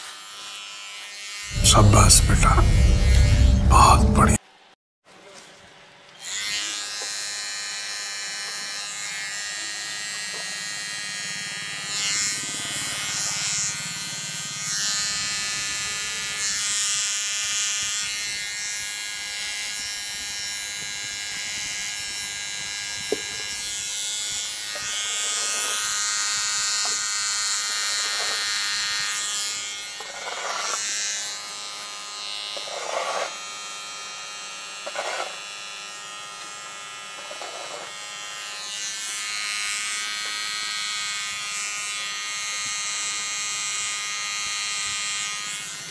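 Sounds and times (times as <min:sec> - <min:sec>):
electric hair clipper cutting hair: 0:00.0 - 0:04.3, 0:06.2 - 0:45.9.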